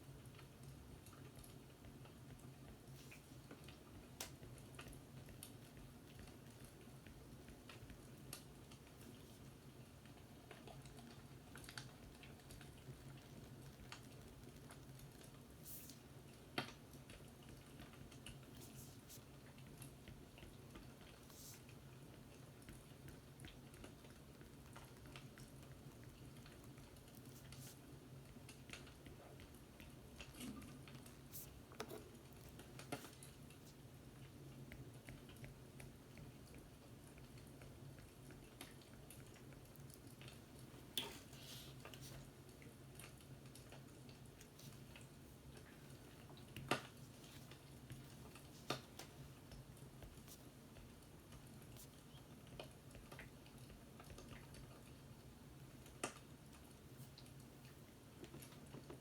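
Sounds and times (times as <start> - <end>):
faint fireplace crackling: 0.0 - 59.0.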